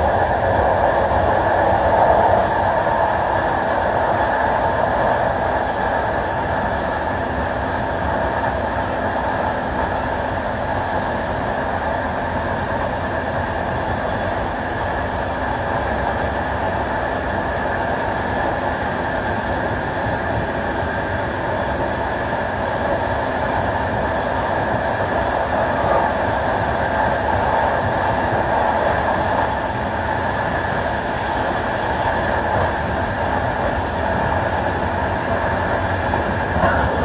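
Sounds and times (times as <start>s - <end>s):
train wheels rolling on rails: 0.0s - 37.0s.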